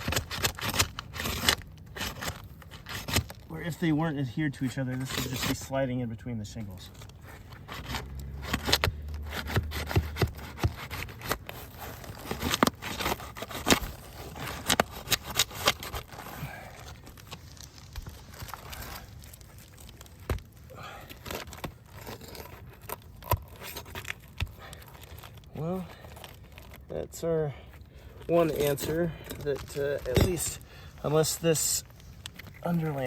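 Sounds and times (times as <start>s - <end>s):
shingles scraping and crackling: 0.0s - 5.8s, 6.6s - 33.0s.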